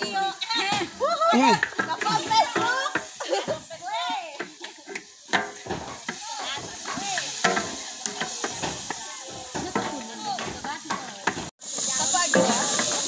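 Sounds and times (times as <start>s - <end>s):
food sizzling in a pan: 0.0s - 13.0s
voices: 0.0s - 13.0s.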